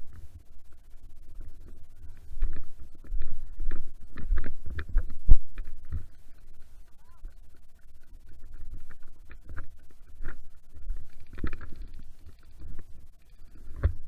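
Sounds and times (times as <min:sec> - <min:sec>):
low rumbling on microphone: 0:00.0 - 0:14.0.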